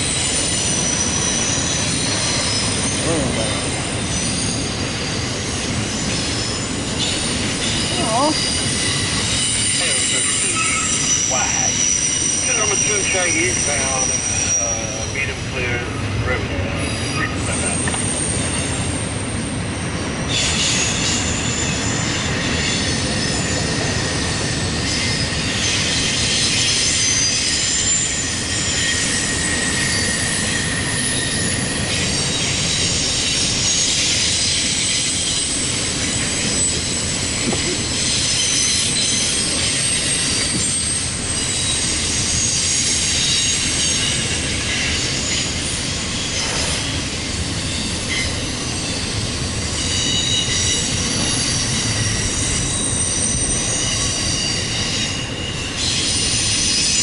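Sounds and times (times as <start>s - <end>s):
freight train rumble: 0.0s - 57.0s
high wheel squeal: 0.0s - 57.0s.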